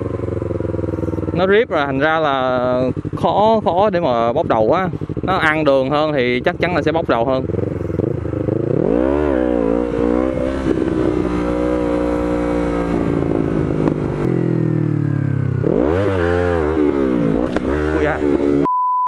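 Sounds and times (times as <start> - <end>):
motorcycle engine revving: 0.0 - 18.7.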